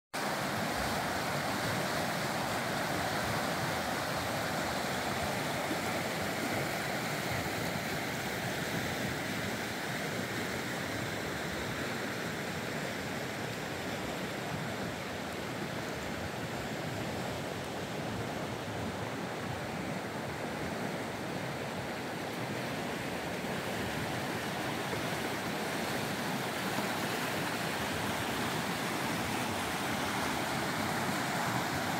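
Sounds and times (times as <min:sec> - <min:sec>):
river rushing over rocks: 0:00.2 - 0:31.9.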